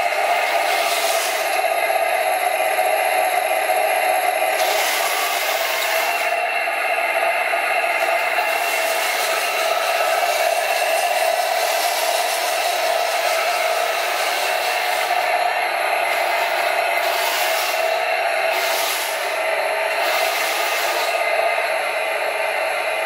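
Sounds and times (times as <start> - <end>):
toy tank motor whirring: 0.0 - 6.5, 7.2 - 21.8.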